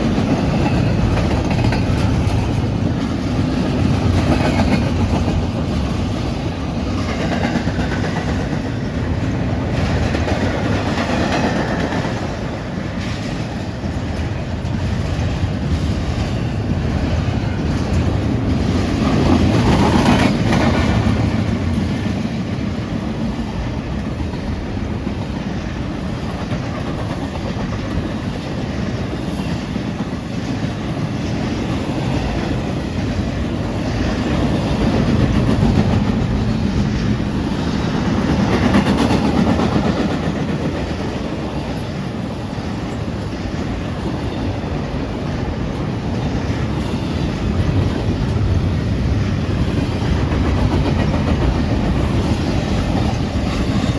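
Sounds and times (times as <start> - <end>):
freight train passing: 0.0 - 53.9
wheels clacking over rail joints: 0.0 - 53.9.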